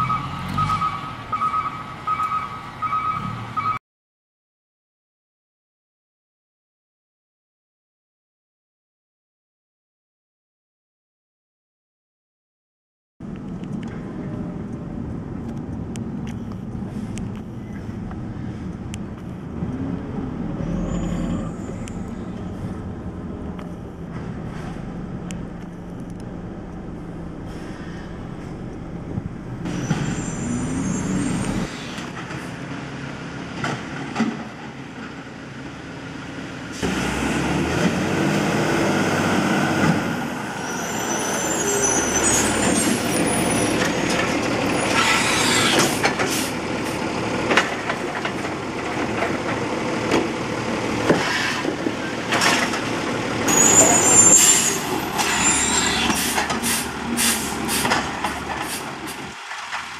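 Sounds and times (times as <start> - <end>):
garbage truck diesel engines: 0.0 - 3.8, 13.8 - 59.9.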